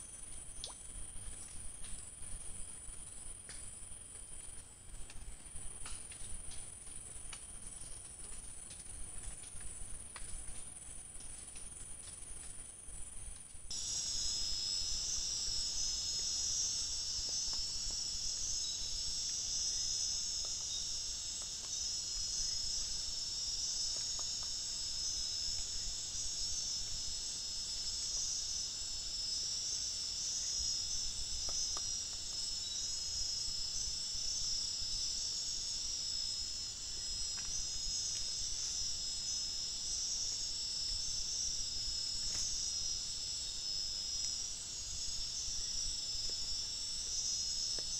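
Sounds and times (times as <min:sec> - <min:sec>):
crickets and insects trilling: 0:00.0 - 0:47.9.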